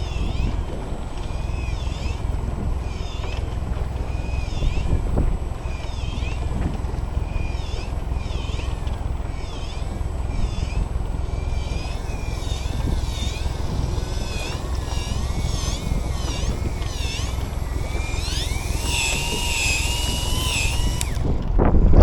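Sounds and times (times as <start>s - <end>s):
gulls calling: 0.0s - 21.5s
steady low rumble: 0.0s - 22.0s.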